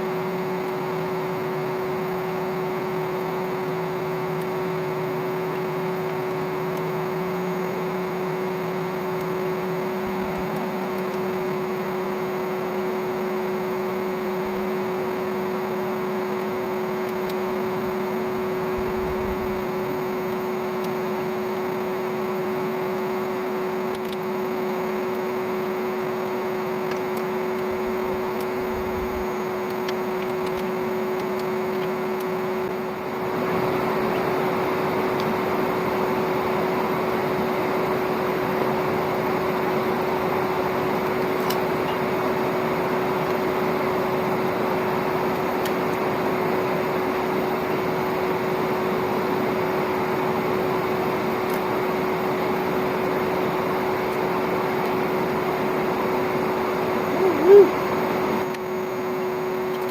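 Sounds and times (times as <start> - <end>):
vacuum motor whine: 0.0 - 59.9.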